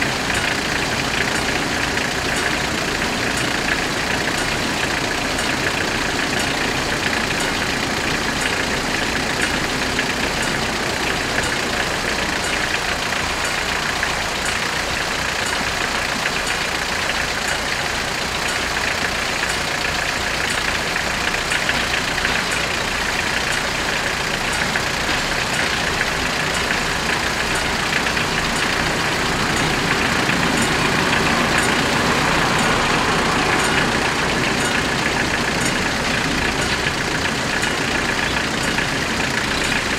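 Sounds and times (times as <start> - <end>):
crossing warning bells ringing: 0.0 - 39.9
diesel railcar arriving: 0.0 - 39.9
vehicle engines idling: 0.0 - 39.9.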